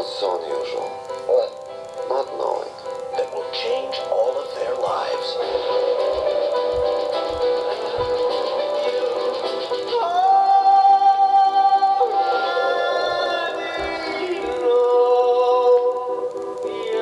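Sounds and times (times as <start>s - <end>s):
pulsing musical accompaniment: 0.0s - 17.0s.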